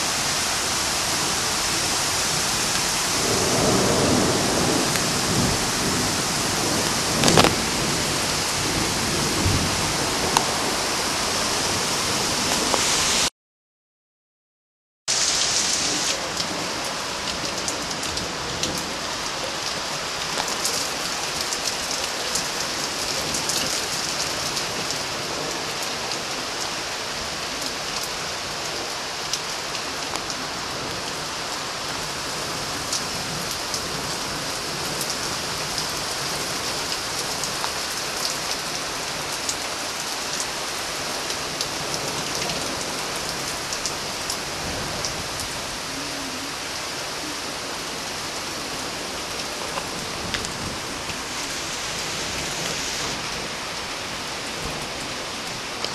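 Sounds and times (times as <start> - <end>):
heavy rain falling: 0.0 - 13.3, 15.1 - 55.9.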